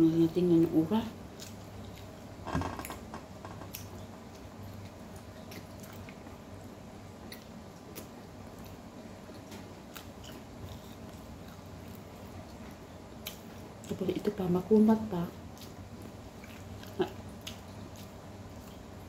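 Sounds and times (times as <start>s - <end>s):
chewing bread: 1.1s - 19.0s.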